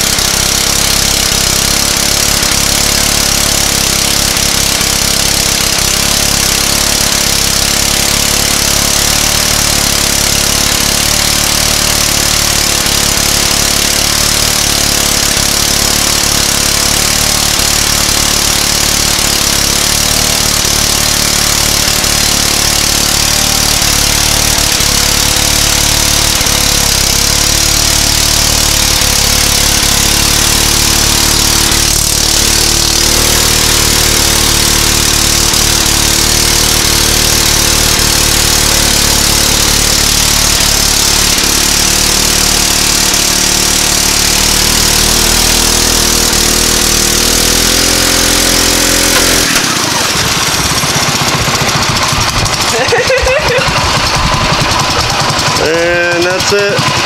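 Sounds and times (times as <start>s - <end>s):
small engine at high revs: 0.0s - 57.0s
tire scrubbing on pavement: 0.0s - 57.0s.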